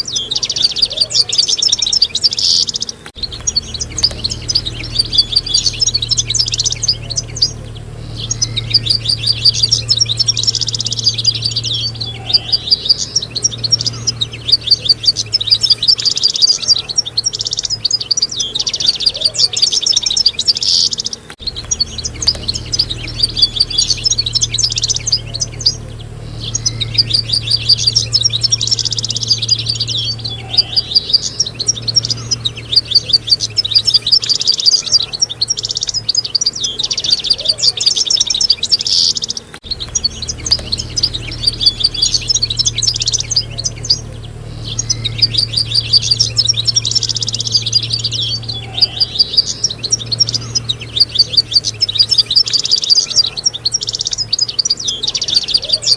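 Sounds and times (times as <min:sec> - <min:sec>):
goldfinches twittering and trilling: 0:00.0 - 0:55.9
steady low hum: 0:00.0 - 0:55.9.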